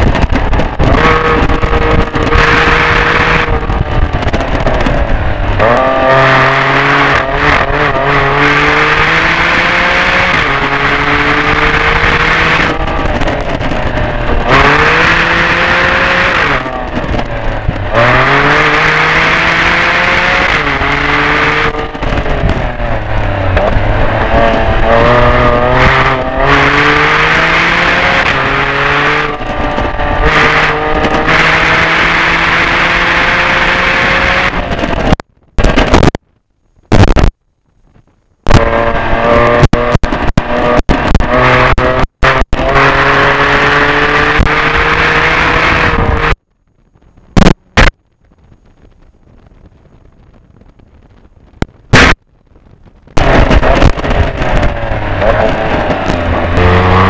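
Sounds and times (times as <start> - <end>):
car engine at high revs: 0.0 - 36.2, 38.4 - 46.5, 47.3 - 48.0, 51.6 - 52.2, 53.0 - 57.0.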